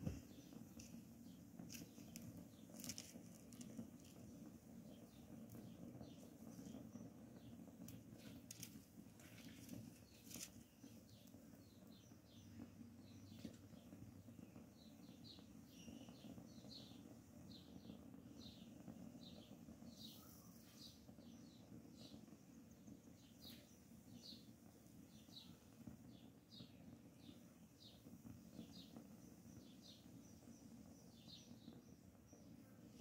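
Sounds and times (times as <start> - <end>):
bird chirping: 4.8 - 24.5, 25.1 - 33.0.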